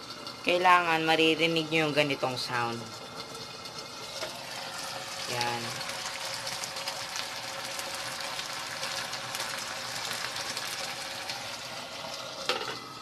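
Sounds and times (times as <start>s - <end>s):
stew bubbling and sizzling in pan: 0.0s - 13.0s.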